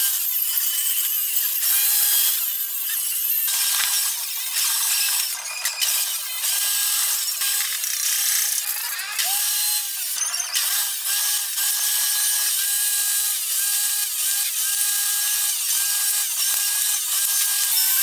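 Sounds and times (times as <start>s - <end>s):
table saw cutting boards: 0.0s - 18.0s.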